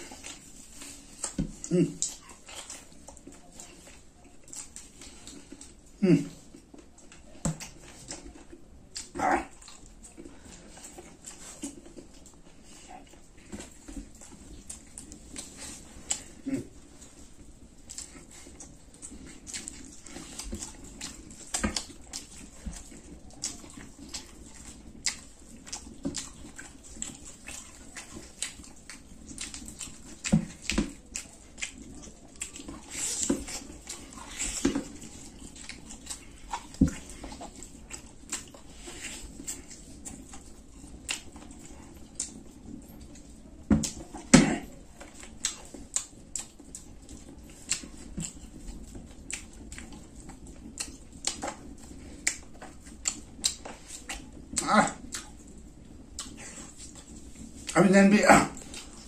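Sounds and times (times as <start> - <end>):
wet eating smacks and slurps: 0.0 - 59.0.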